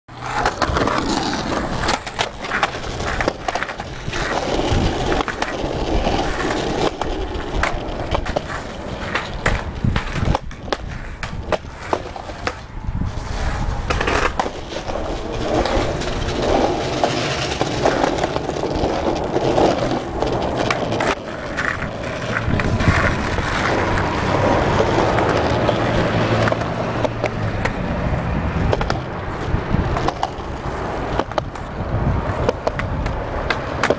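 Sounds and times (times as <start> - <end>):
skateboard clacks: 0.1 - 33.9
skateboard wheels rolling: 0.1 - 33.9.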